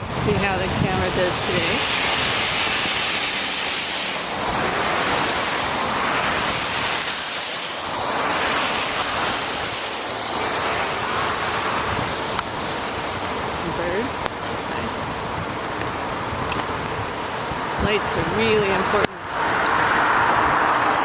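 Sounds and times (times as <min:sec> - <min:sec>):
tyres hissing on wet road: 0:00.0 - 0:21.0
wind on microphone: 0:00.0 - 0:21.0.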